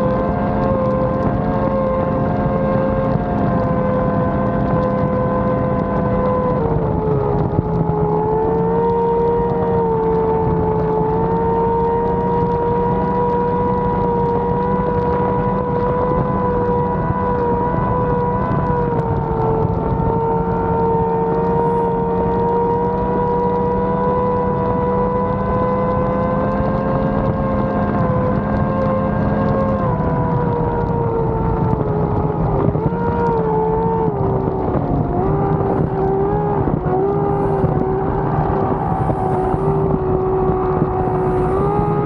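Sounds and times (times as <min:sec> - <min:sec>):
powerboat engine drone: 0:00.0 - 0:42.0.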